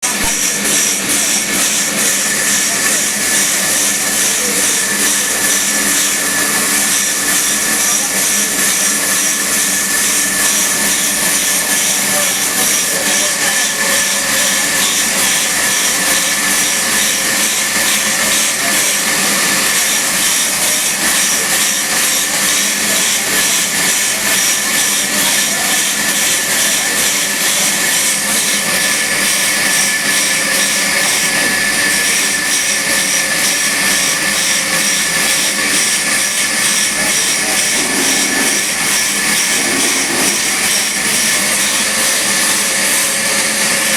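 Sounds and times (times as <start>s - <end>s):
sawmill machinery whirring: 0.0s - 43.9s.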